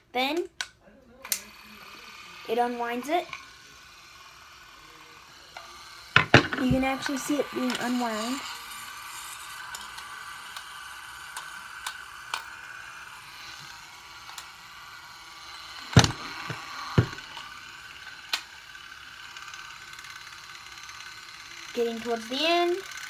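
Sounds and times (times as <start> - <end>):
movie camera whirring: 0.3 - 23.0.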